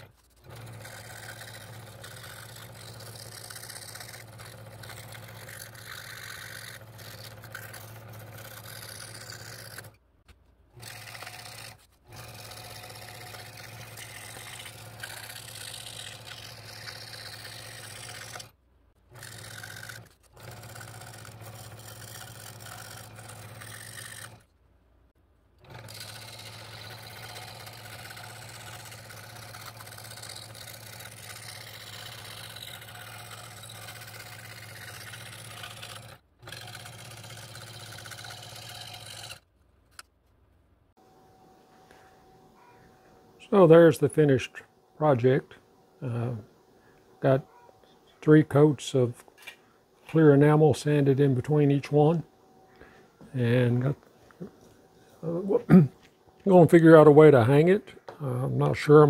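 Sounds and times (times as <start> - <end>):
scroll saw cutting wood: 0.0 - 24.6, 25.6 - 40.1, 48.2 - 57.8.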